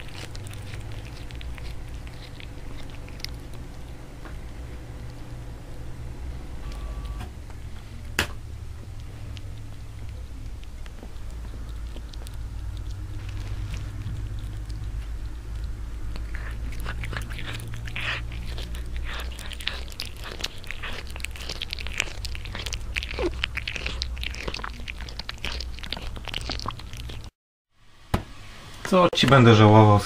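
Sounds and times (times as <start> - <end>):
cat purring: 0.0 - 27.3.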